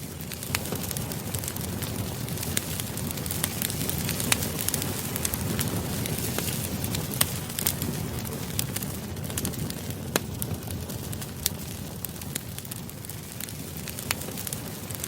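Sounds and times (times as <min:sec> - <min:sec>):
burning wood crackling and popping: 0:00.0 - 0:15.0
low rush of flames: 0:00.0 - 0:15.0.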